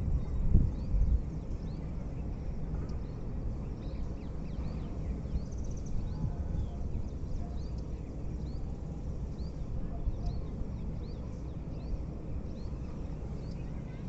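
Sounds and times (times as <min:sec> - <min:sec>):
steady low rumble: 0:00.0 - 0:14.0
small birds chirping: 0:00.1 - 0:14.0.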